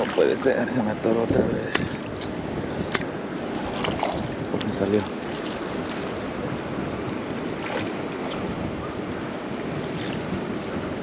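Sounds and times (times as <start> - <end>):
wind on the microphone: 0.0 - 11.0
river water rushing: 1.7 - 11.0.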